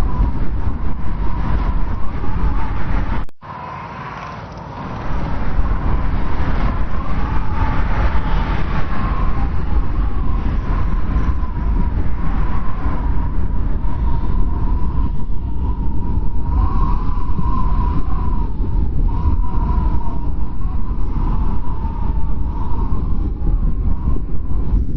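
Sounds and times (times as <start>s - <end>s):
wavering wind whistle: 0.0s - 24.9s
wind blowing hard: 0.0s - 24.9s.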